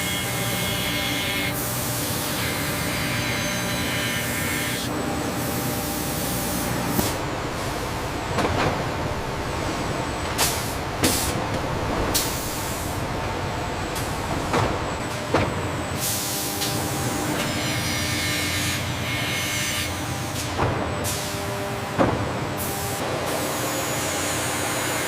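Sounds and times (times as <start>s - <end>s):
industrial machinery noise: 0.0s - 25.0s.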